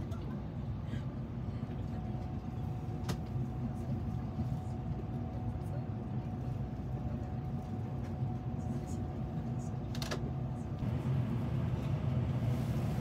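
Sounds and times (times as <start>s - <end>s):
train humming at station: 0.0s - 13.0s.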